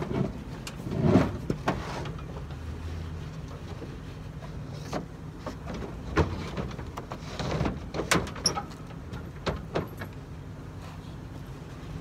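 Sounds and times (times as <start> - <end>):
knocks and clunks of mower: 0.0 - 10.5.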